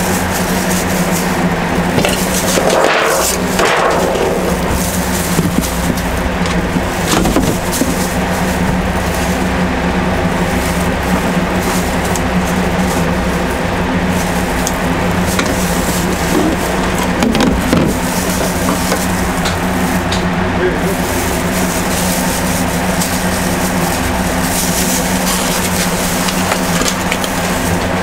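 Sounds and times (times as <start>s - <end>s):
engine running: 0.0s - 28.0s
rustling: 0.0s - 28.0s.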